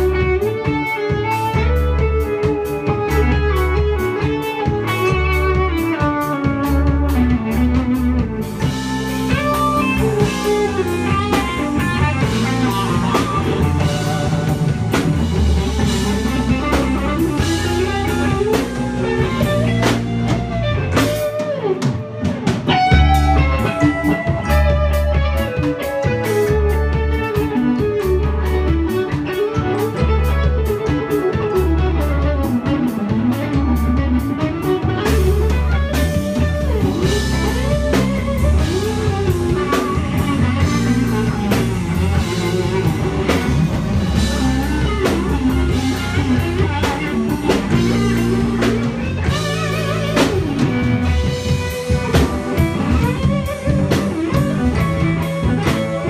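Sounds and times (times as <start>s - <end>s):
electric guitar bending notes: 0.0s - 56.0s
live band playing instrumental: 0.0s - 56.0s.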